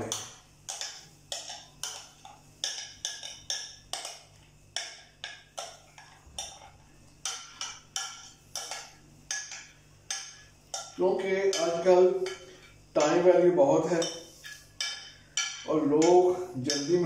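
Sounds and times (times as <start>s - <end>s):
utensil clinking on glass bowl: 0.0s - 17.0s.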